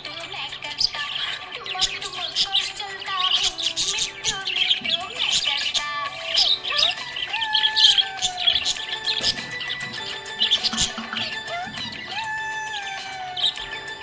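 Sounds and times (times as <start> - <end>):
background music: 0.0 - 14.0
budgerigars chirping and warbling: 0.0 - 14.0.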